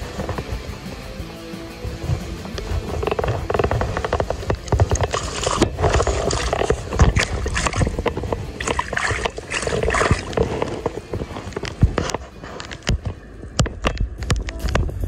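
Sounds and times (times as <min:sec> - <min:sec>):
water splashing and sloshing: 0:00.0 - 0:14.4.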